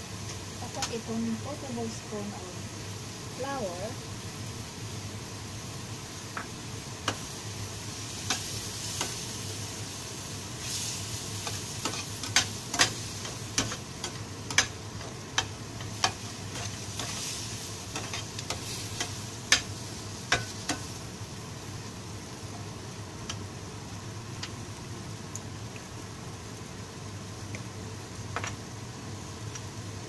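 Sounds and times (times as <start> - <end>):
light sizzle: 0.0 - 30.0.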